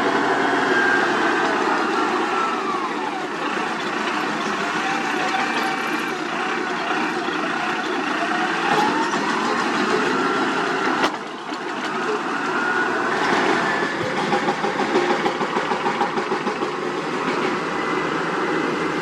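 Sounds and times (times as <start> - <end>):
diesel machinery running: 0.0 - 19.0.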